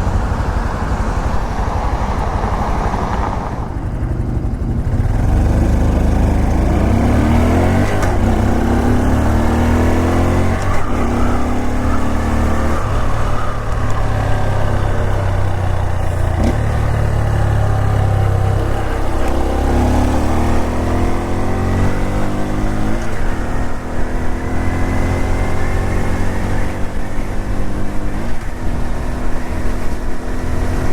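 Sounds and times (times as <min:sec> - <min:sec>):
motorcycle engine shifting up: 0:00.0 - 0:30.3.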